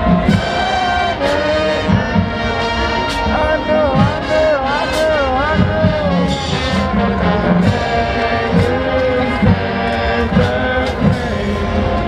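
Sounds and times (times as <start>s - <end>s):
brass band playing slow tune: 0.0s - 12.0s
drum and cymbal hits: 0.0s - 12.0s.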